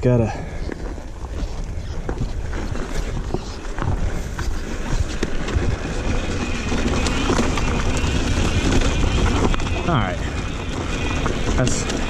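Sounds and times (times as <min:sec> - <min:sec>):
dirt bike engine rumble: 0:00.0 - 0:12.0.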